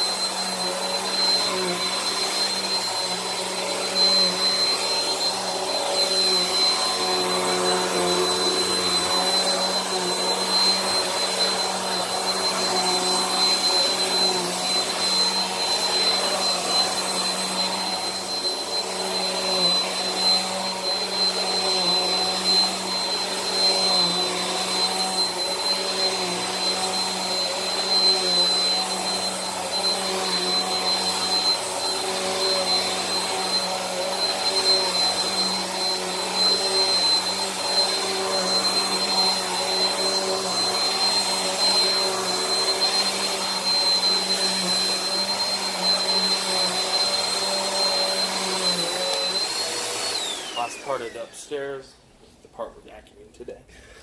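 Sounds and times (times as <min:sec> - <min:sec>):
vacuum cleaner running on carpet: 0:00.0 - 0:51.4.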